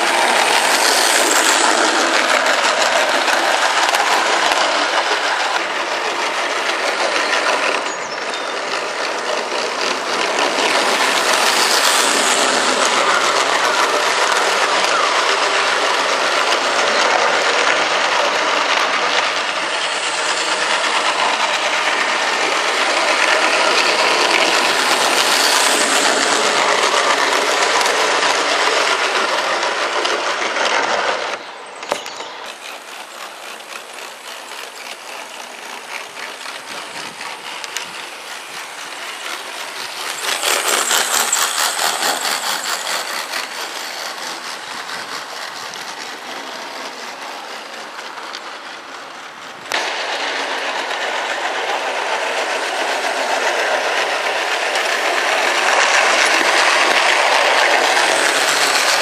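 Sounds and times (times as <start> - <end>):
model train wheels rumbling: 0.0 - 59.0.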